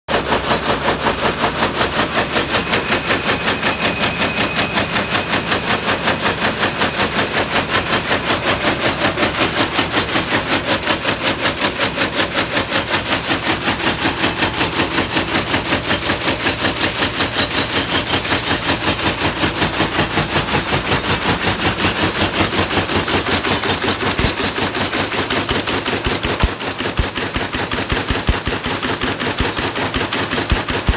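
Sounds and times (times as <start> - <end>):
weaving machine clattering: 0.1 - 30.9.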